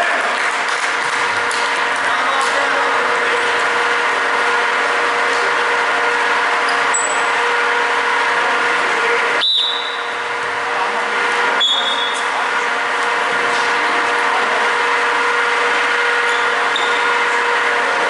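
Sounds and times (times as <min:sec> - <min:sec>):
indoor basketball court hum: 0:00.0 - 0:18.0.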